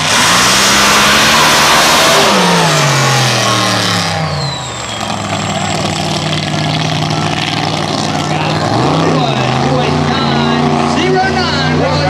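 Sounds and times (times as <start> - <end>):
racing car engine at full throttle: 0.0 - 12.0.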